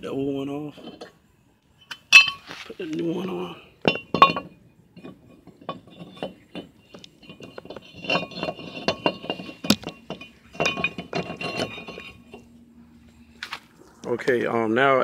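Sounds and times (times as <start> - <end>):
metal brake rotor clinking: 0.6 - 12.6.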